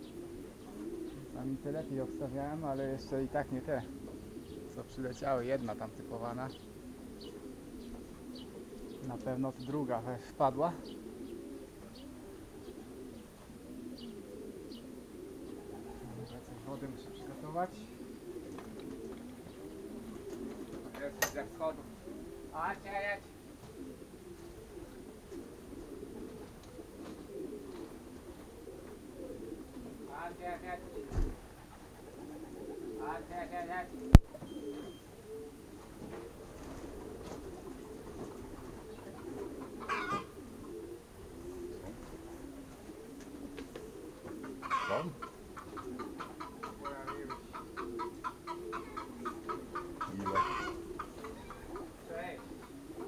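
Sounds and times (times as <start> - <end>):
harsh bird calls: 0.0 - 35.5, 37.0 - 41.9, 43.8 - 53.0
pigeons cooing: 0.0 - 53.0.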